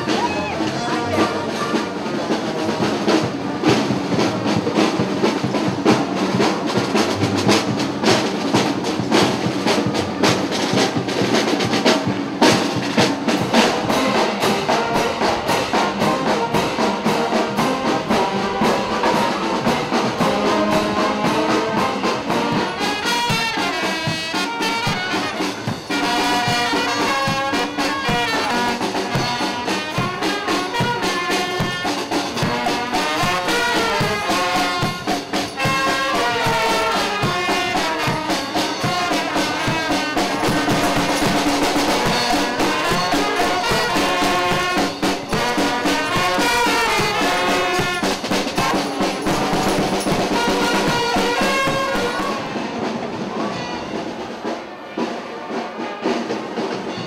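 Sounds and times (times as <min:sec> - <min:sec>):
drum beats: 0:00.0 - 0:57.0
marching brass band playing: 0:00.0 - 0:57.0.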